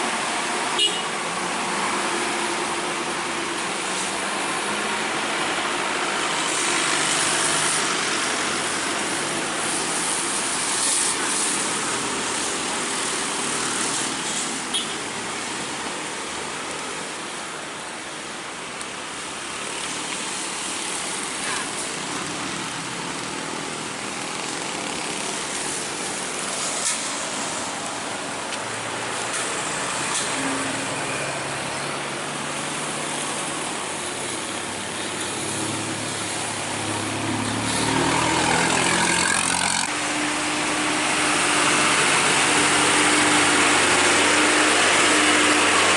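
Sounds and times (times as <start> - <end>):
engine and tyre noise of traffic: 0.0 - 45.9.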